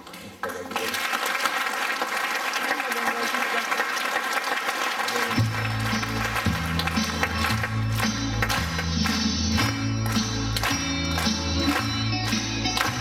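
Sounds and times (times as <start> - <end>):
audience applauding: 0.4 - 13.0.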